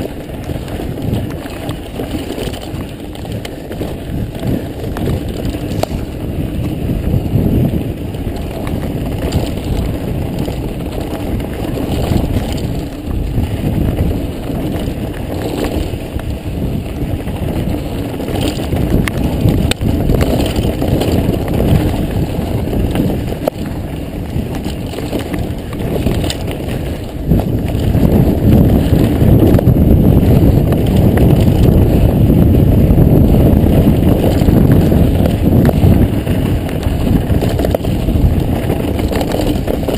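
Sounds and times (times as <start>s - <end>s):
bike clicks and rattles: 0.0s - 39.9s
bike tyres on dirt trail: 0.0s - 39.9s
wind on microphone: 0.0s - 39.9s.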